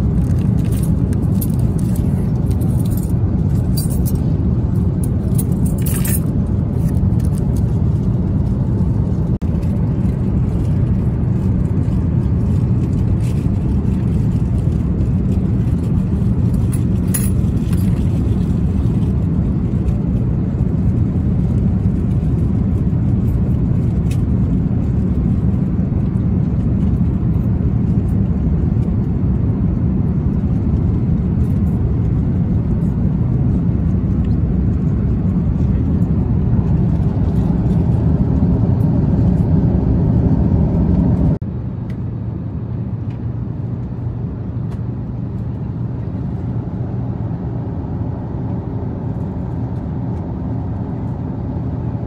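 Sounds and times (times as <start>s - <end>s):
airliner cabin roar: 0.0s - 52.0s.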